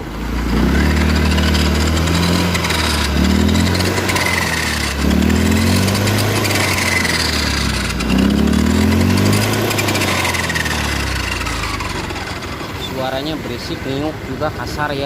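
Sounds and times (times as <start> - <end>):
rough gearbox whine: 0.0 - 14.7
scooter engine revving: 0.0 - 15.0.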